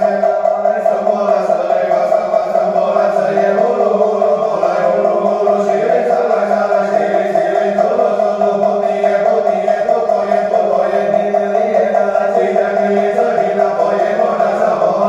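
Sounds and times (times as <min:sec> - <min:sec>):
steady held tones: 0:00.0 - 0:15.0
voices chanting: 0:00.0 - 0:15.0.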